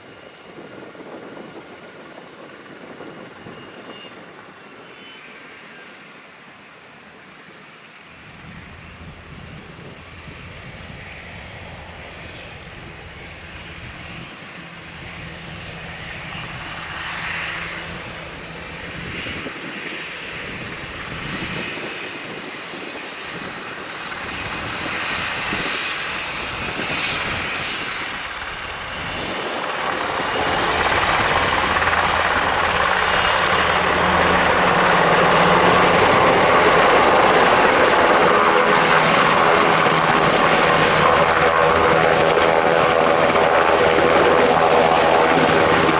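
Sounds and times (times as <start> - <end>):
helicopter rotor and turbines: 0.0 - 45.9.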